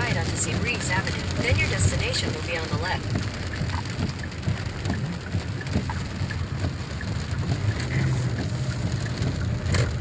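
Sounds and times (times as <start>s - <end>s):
rain pattering on car: 0.0s - 10.0s
road and engine rumble: 0.0s - 10.0s.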